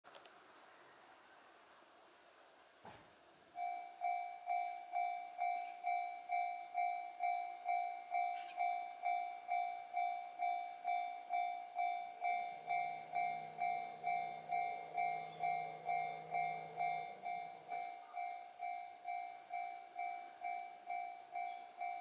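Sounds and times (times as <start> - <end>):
low steady hum: 3.4 - 22.0
level crossing warning bell: 3.5 - 22.0.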